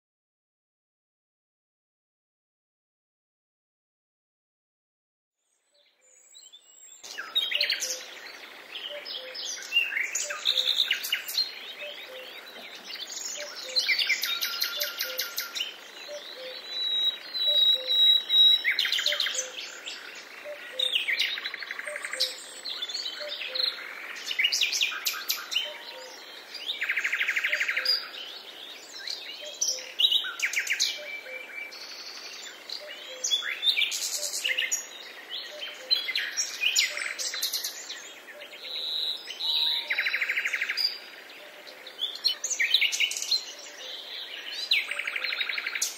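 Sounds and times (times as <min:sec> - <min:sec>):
songbirds singing and chirping: 0:05.4 - 0:45.9.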